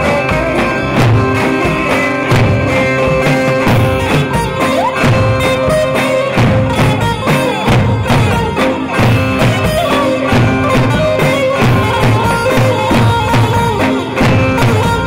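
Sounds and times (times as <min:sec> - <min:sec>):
lute melody with droning notes: 0:00.0 - 0:15.0.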